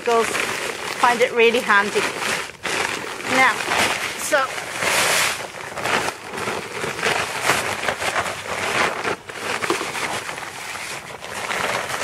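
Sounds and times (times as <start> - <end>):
plastic bag rustling: 0.0 - 12.0
sand pouring onto compost: 0.0 - 12.0.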